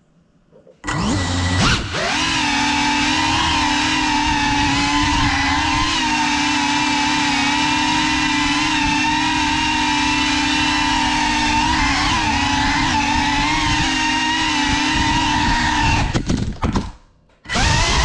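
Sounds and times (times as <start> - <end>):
drone motors whining: 0.8 - 16.3, 17.4 - 18.0.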